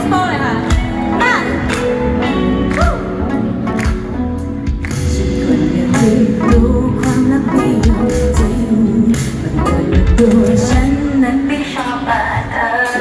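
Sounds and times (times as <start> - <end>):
female lead vocal: 0.0 - 3.0, 5.0 - 13.0
live pop-rock band: 0.0 - 13.0.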